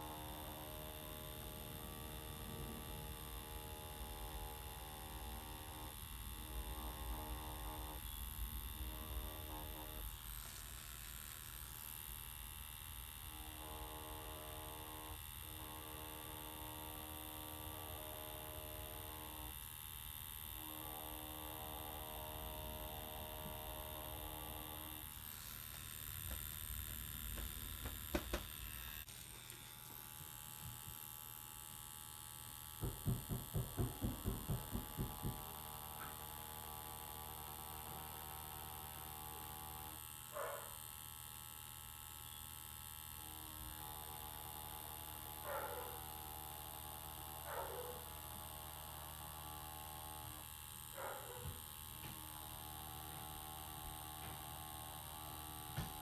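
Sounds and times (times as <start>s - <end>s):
tattoo machine humming: 0.0s - 56.0s.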